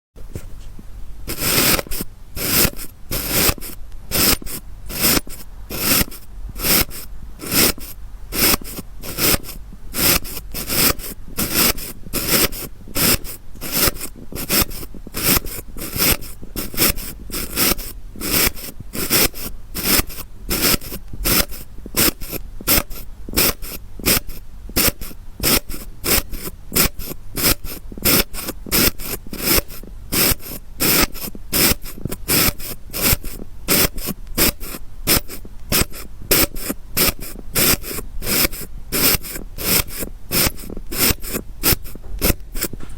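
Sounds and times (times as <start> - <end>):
sand being cut and scraped: 1.3 - 42.7.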